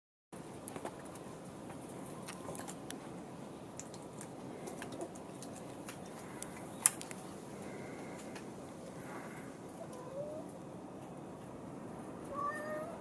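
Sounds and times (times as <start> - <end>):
steady outdoor hiss: 0.4 - 13.0.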